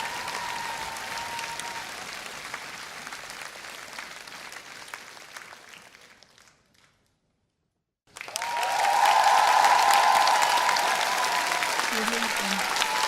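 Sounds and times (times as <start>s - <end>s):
audience applauding: 0.0s - 6.9s, 8.1s - 13.0s.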